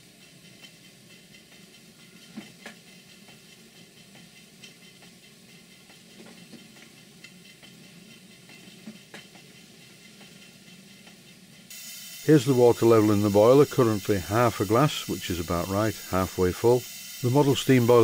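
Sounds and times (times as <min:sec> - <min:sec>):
faint steam hiss: 0:00.0 - 0:18.0.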